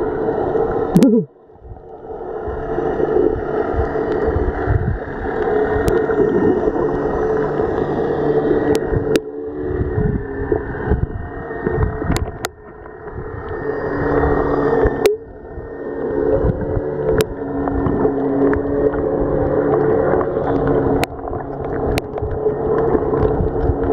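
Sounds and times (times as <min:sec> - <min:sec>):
muffled boat engine underwater: 0:00.0 - 0:23.9.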